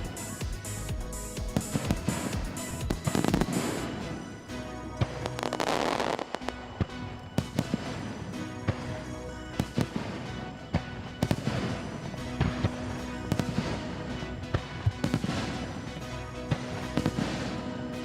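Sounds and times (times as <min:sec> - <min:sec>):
fireworks bangs and crackling: 0:00.0 - 0:17.9
music with held tones: 0:00.0 - 0:18.0.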